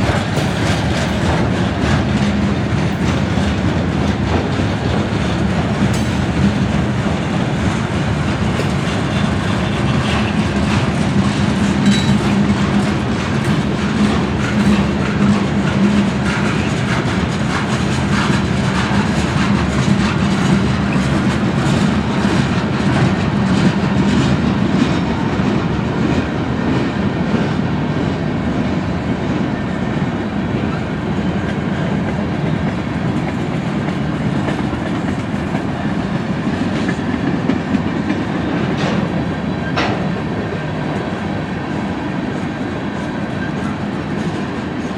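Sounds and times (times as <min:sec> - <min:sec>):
wheels clacking over rail joints: 0:00.0 - 0:27.4, 0:32.7 - 0:44.9
train cars rolling past: 0:00.0 - 0:44.9.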